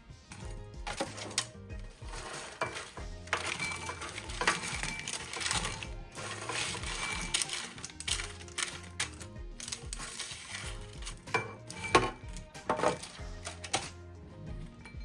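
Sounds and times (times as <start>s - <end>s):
background music: 0.0s - 15.0s
pecans clattering into ceramic bowl: 0.3s - 14.0s
spatula scraping baking sheet: 0.3s - 14.0s.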